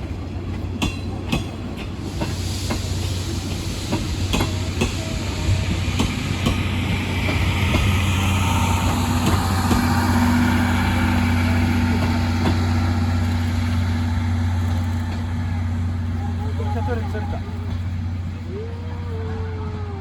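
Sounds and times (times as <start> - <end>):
train mechanical drone: 0.0 - 20.0.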